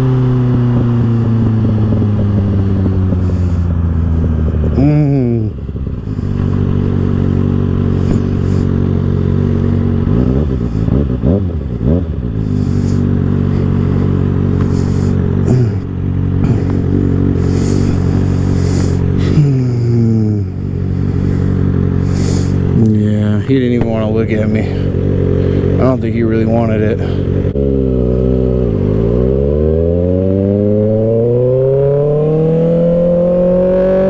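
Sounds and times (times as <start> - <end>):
motorcycle engine at high speed: 0.0 - 34.0.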